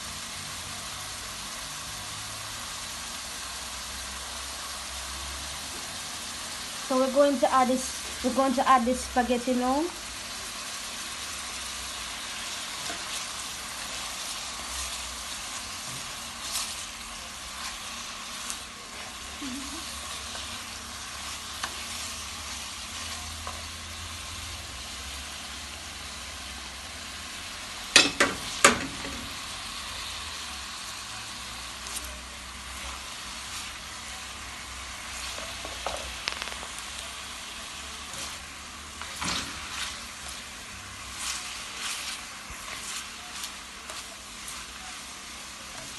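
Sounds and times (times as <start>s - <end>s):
food sizzling in a pan: 0.0s - 45.9s.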